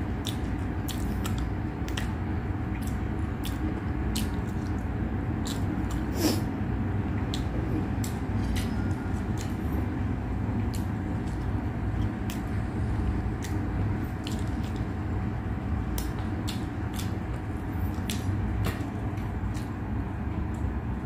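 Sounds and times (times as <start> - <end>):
chewing with wet mouth clicks: 0.0 - 20.7
steady low hum: 0.0 - 21.0.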